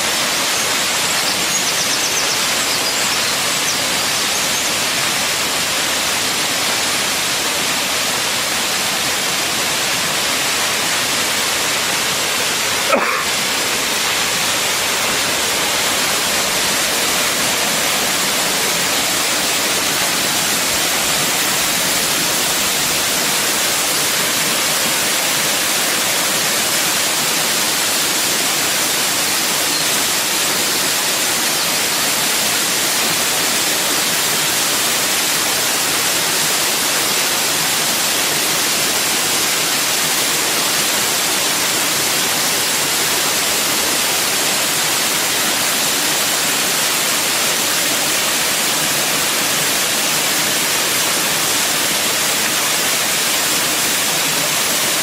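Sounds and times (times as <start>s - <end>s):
waterfall pouring: 0.0s - 55.0s.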